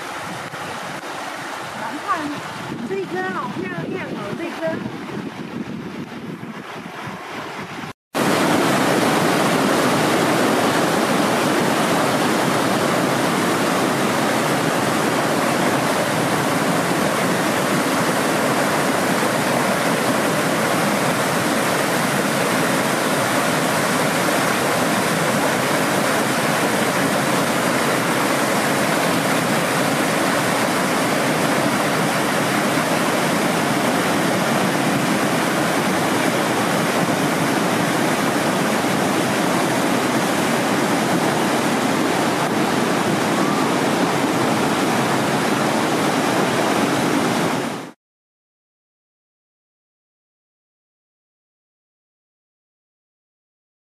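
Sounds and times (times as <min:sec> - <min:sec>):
mountain stream rushing over rocks: 0:00.0 - 0:48.0.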